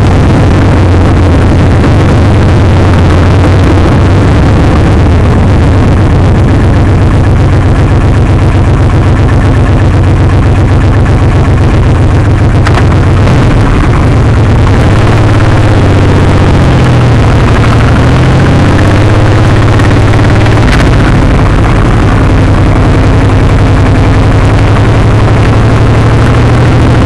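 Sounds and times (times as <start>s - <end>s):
motorcycle engine idling: 0.0s - 27.0s
motorcycle pulling away: 0.0s - 27.0s.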